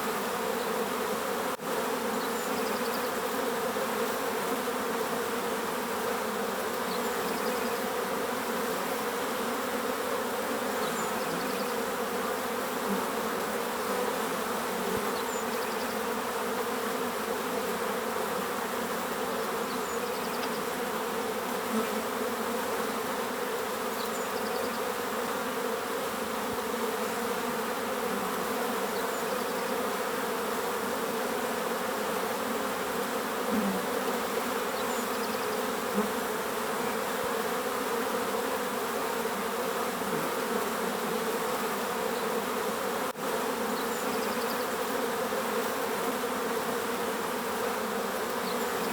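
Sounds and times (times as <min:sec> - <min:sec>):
bees buzzing: 0:00.0 - 0:48.9.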